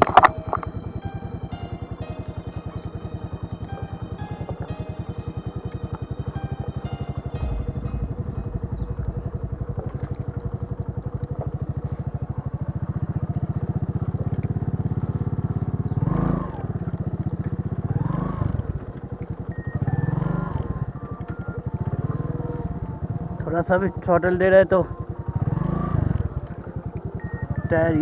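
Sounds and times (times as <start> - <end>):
motorcycle engine chugging: 0.0 - 28.0.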